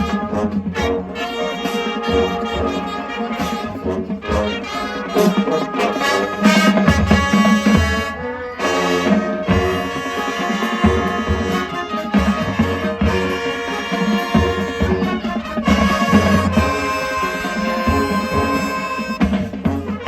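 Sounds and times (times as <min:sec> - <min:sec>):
marching band brass: 0:00.0 - 0:20.0
marching band drums: 0:00.0 - 0:20.0.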